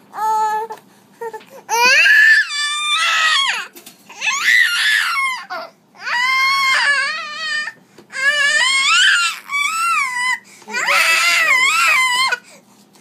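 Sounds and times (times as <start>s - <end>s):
baby shrieking: 1.7s - 12.4s.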